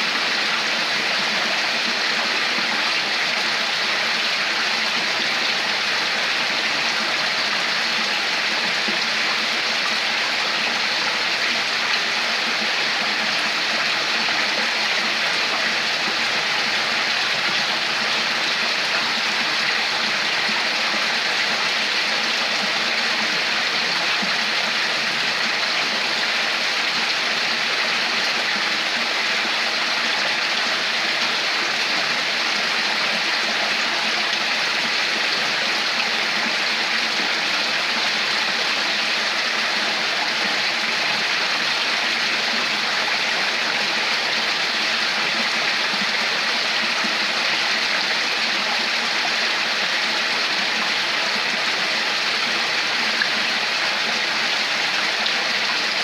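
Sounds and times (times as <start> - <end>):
water flowing over rocks: 0.0 - 56.0.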